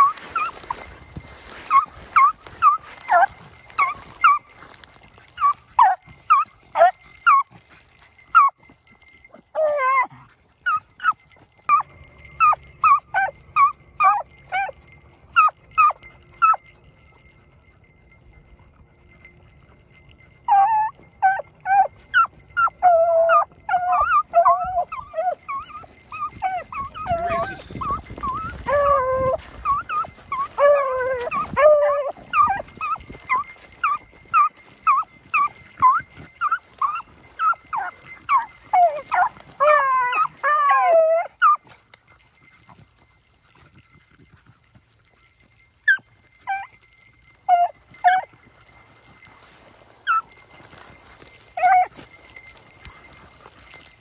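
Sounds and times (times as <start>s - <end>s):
dogs baying: 0.0s - 54.0s.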